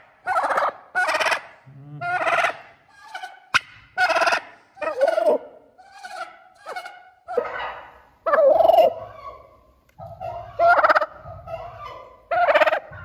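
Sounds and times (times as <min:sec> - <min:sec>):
turkeys gobbling: 0:00.0 - 0:13.0.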